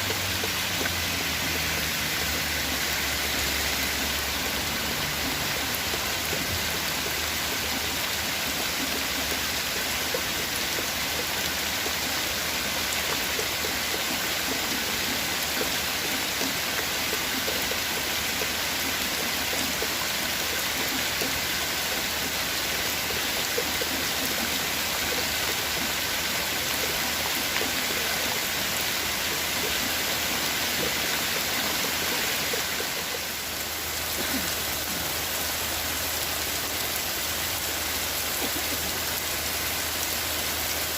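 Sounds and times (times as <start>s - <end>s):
steady rain hissing: 0.0s - 40.9s.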